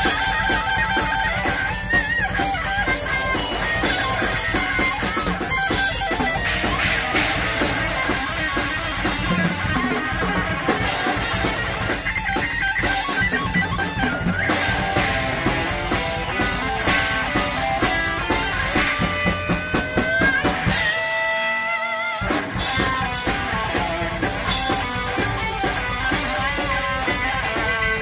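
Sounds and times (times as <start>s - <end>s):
distorted electric guitar: 0.0s - 28.0s
drum kit with cymbals: 0.0s - 28.0s
electric bass: 0.0s - 28.0s.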